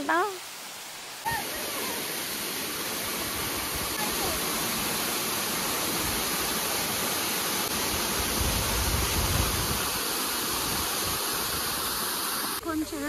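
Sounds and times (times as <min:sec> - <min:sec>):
waterfall onto rocks: 0:00.0 - 0:13.0.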